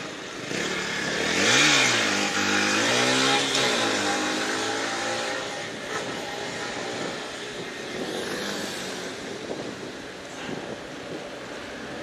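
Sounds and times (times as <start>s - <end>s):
tyre and traffic noise: 0.0s - 12.0s.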